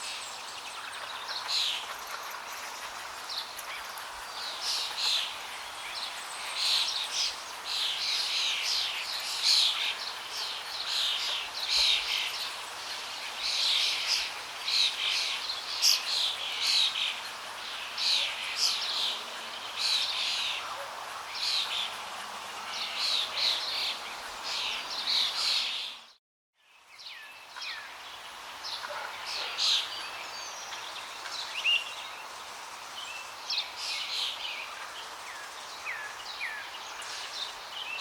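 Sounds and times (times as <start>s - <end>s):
small birds chirping and twittering: 0.0s - 38.0s.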